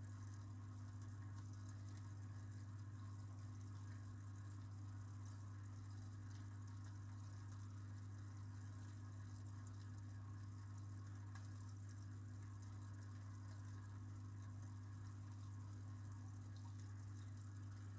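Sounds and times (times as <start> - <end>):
aquarium pump humming: 0.0 - 17.9
water trickling: 0.0 - 17.9.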